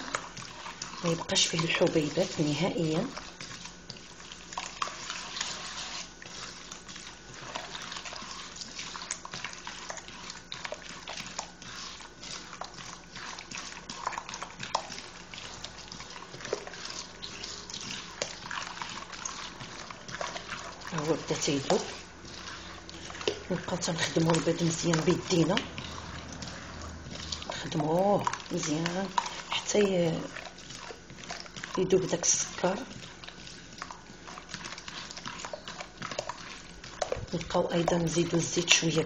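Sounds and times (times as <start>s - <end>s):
beating eggs in a bowl: 0.0s - 39.0s.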